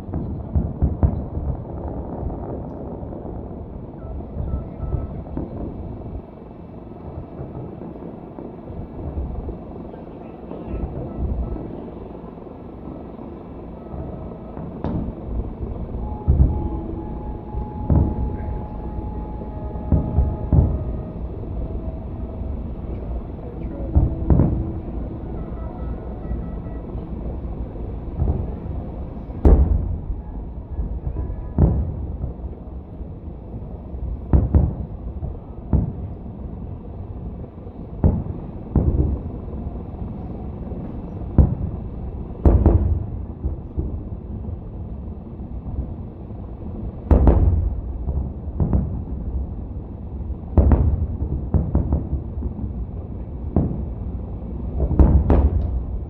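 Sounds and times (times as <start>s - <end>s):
fireworks booming: 0.0s - 56.0s
steady low rumble: 0.0s - 56.0s.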